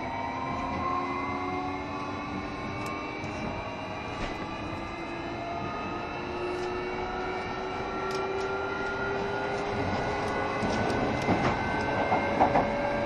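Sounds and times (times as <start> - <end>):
traction motor whine: 0.0 - 13.0
train wheels rumbling on rails: 0.0 - 13.0.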